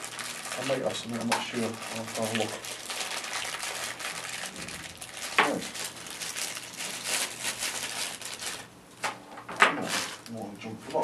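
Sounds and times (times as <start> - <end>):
plastic bag crinkling: 0.0 - 8.7, 9.8 - 10.4.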